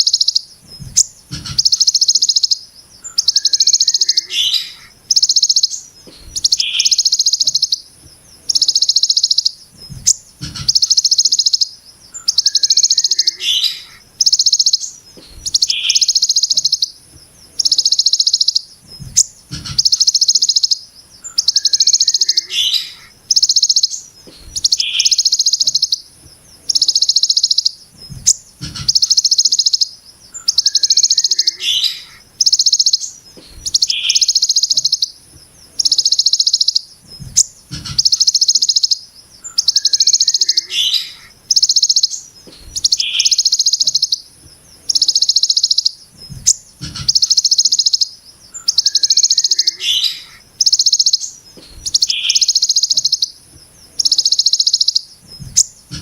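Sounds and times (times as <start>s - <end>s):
songbird harsh rattling call: 0.0s - 56.0s.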